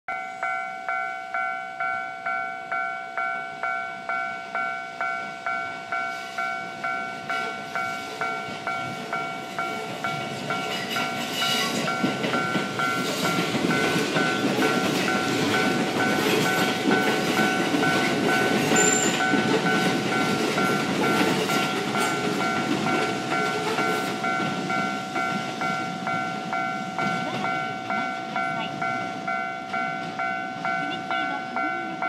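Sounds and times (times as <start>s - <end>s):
level crossing warning bell: 0.1s - 32.0s
train wheels rumbling and clattering: 4.6s - 32.0s.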